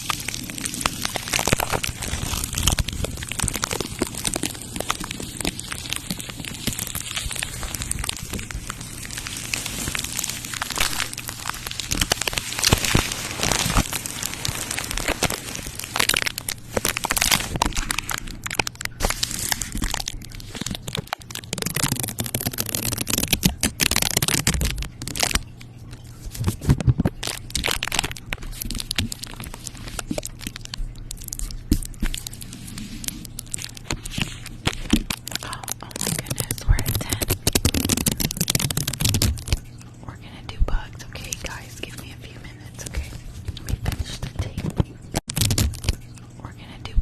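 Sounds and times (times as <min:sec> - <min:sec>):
crinkling and crackling: 0:00.0 - 0:46.6
faint steady hum: 0:00.0 - 0:47.0.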